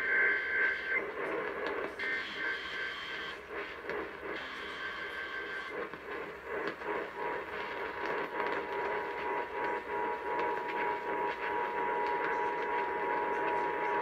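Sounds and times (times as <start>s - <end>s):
radio static and hiss: 0.0s - 14.0s.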